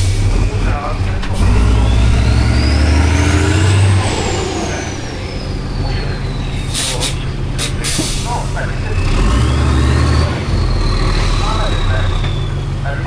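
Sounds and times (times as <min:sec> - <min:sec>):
diesel truck engine under load: 0:00.0 - 0:13.0.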